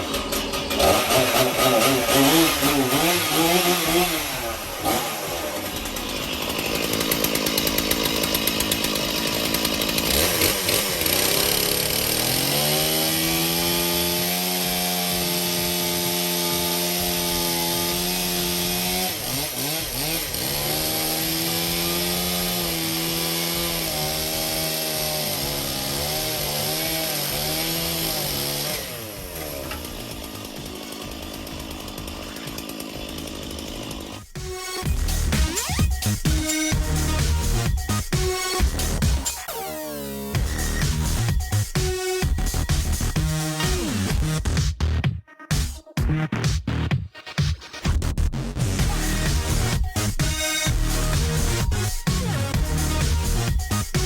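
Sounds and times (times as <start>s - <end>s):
chainsaw running at high revs: 0.0s - 44.6s, 48.8s - 54.0s.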